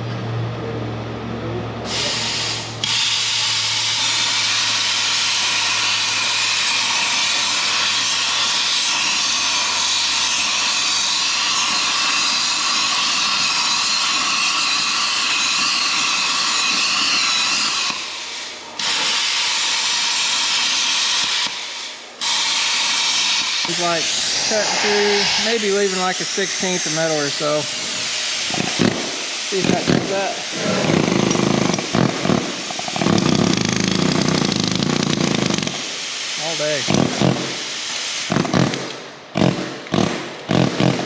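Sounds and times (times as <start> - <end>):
metal-cutting tool hissing: 1.9 - 38.4.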